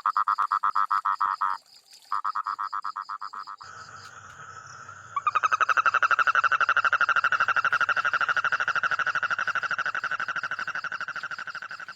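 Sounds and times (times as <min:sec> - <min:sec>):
frog trilling: 0:02.2 - 0:11.9.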